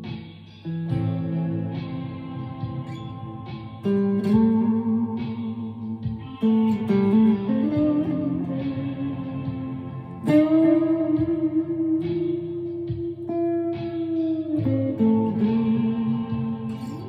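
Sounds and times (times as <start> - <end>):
electric guitar picked notes and chords: 0.0 - 17.0.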